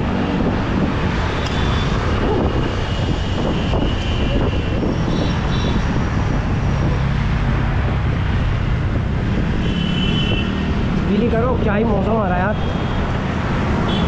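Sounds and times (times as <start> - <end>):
road traffic noise: 0.0 - 14.0
wind rumbling on microphone: 0.0 - 14.0.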